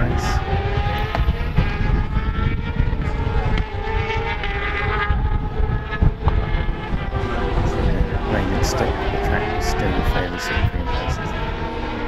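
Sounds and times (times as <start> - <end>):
racing motorcycles accelerating: 0.0 - 12.0.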